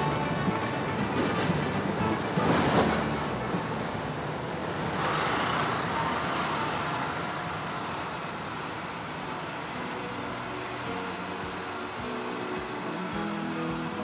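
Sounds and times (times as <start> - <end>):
boat engines running: 0.0 - 14.0.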